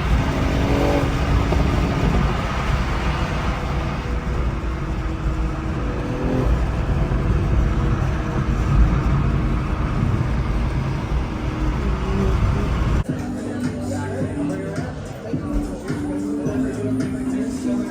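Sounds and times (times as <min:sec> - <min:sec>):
car engine and road noise: 0:00.0 - 0:17.9.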